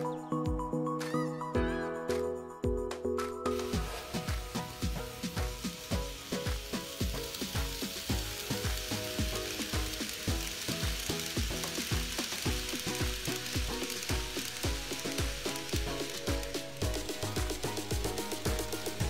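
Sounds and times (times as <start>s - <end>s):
background music with steady beat: 0.0s - 19.0s
model train wheels rattling: 3.7s - 19.0s.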